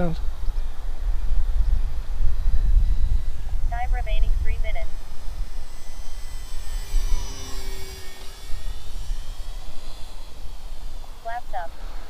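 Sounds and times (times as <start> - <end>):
model plane motor whine: 0.0 - 12.0
wind rumble on microphone: 0.0 - 12.0.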